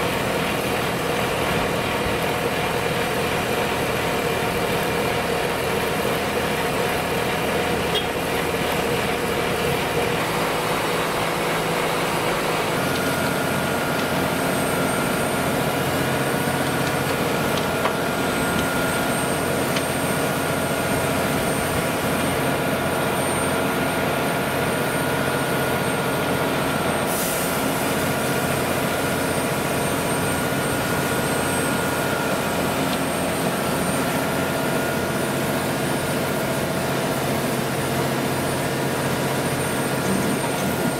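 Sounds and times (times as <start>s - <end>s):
diesel machinery running: 0.0s - 40.9s.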